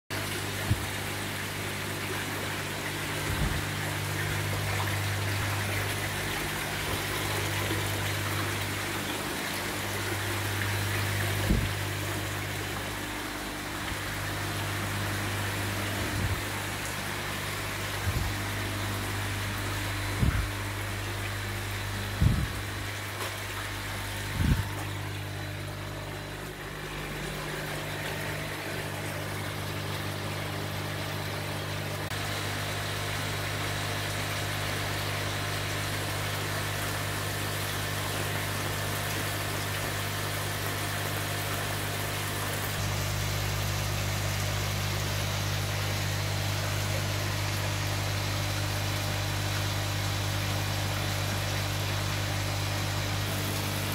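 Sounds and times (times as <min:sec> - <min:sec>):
aquarium pumps humming: 0:00.1 - 0:53.9.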